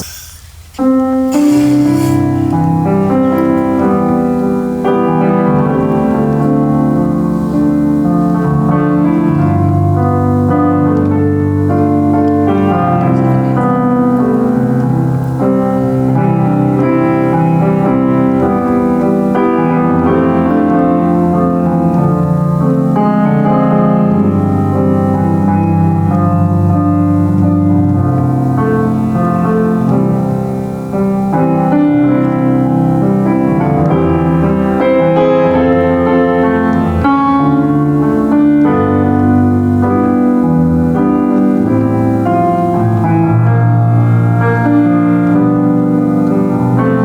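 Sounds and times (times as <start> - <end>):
piano playing chords: 0.0 - 47.0.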